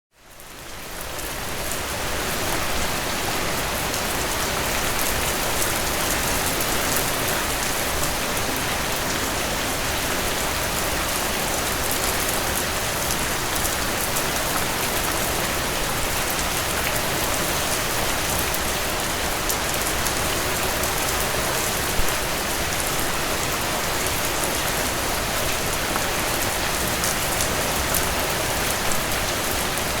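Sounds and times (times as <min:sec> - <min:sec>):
rain falling: 0:00.2 - 0:30.0.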